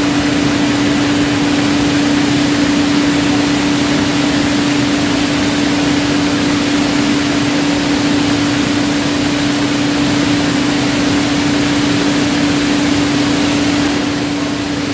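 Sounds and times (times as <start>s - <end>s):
conveyor machinery hiss and hum: 0.0s - 14.9s.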